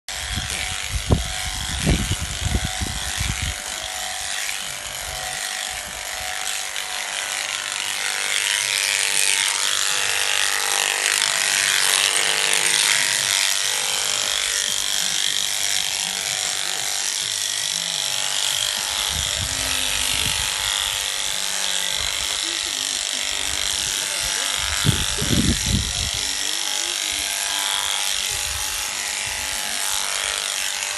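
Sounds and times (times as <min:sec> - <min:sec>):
shearing clipper buzzing: 0:00.1 - 0:30.9.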